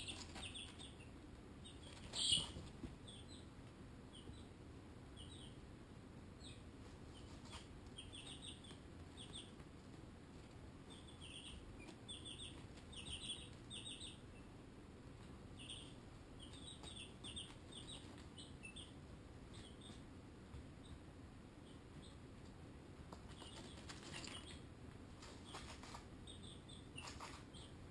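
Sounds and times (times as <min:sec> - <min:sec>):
baby chicks peeping: 0:00.0 - 0:27.9.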